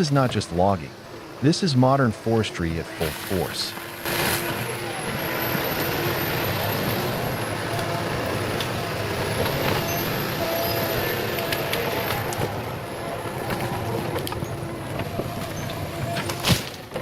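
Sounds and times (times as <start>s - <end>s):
faint high whine: 0.0s - 17.0s
heavy machine engine hum: 0.0s - 17.0s.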